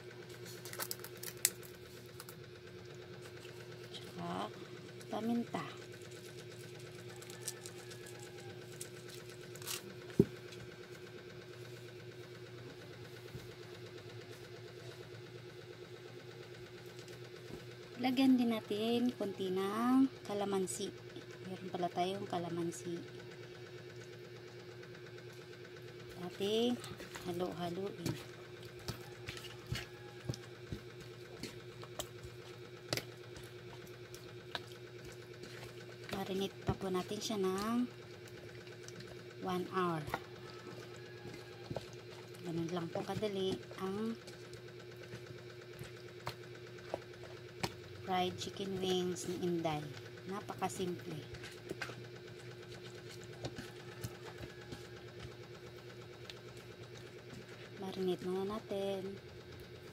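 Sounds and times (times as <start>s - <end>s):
low motor hum: 0.0s - 59.9s.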